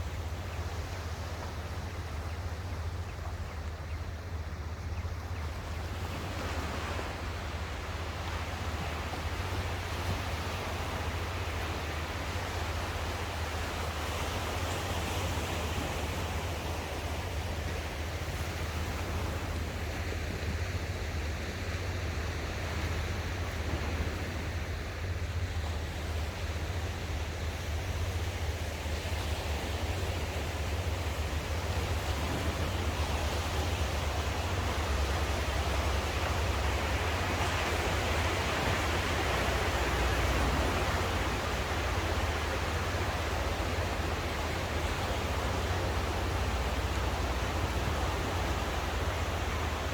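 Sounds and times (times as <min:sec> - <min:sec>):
sea surf washing ashore: 0:00.0 - 0:49.9
wind rumble on microphone: 0:00.0 - 0:49.9.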